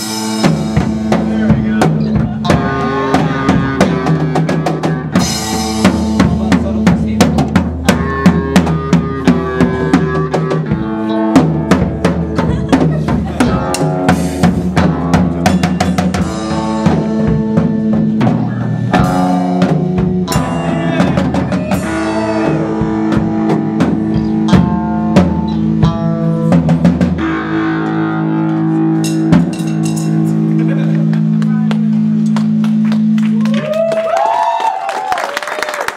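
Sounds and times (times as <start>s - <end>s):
guitar and bass chords: 0.0s - 33.9s
drum kit: 0.0s - 35.1s.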